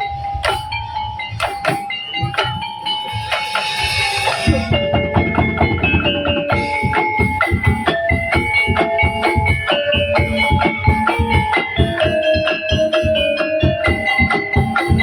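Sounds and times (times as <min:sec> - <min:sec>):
percussion ensemble playing: 0:00.0 - 0:15.0
heavy drumming: 0:01.4 - 0:15.0.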